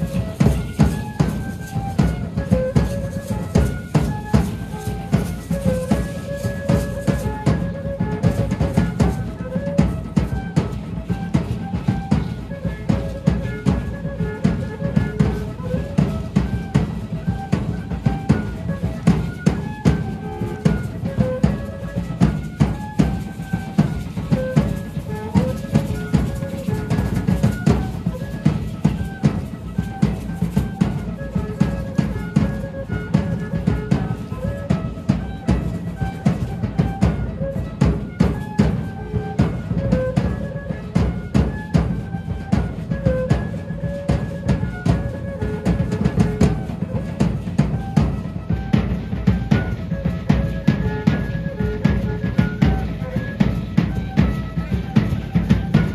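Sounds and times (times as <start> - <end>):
large drum fast steady beat: 0.0 - 55.9.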